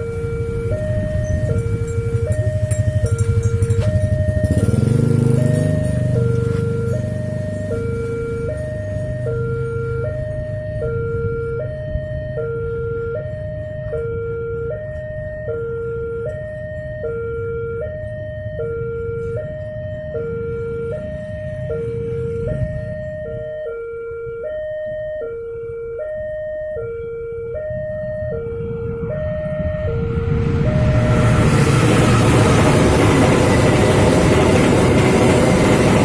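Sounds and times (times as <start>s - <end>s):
approaching train rumble: 0.0s - 23.4s, 27.6s - 36.0s
two-tone crossing warning siren: 0.0s - 36.0s.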